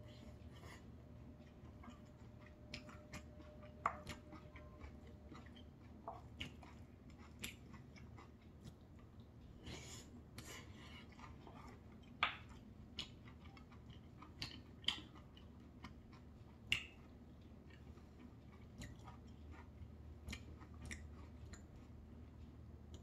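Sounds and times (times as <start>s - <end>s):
chewing soft rice: 0.0s - 23.0s.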